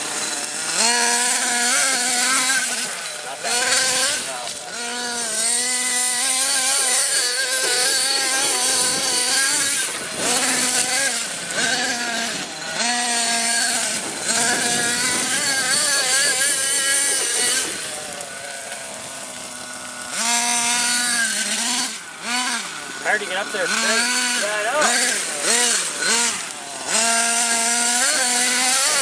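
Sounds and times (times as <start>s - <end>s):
remote-control vehicle motor whining: 0.0s - 29.0s.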